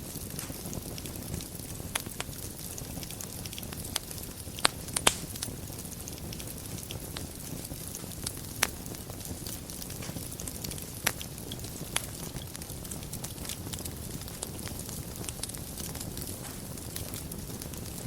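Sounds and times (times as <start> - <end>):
fire crackling and popping: 0.0 - 18.0
fire rumbling and hissing: 0.0 - 18.0.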